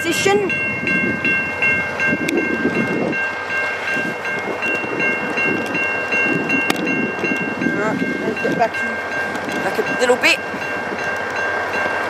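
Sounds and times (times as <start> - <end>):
level crossing bell ringing: 0.0 - 12.0.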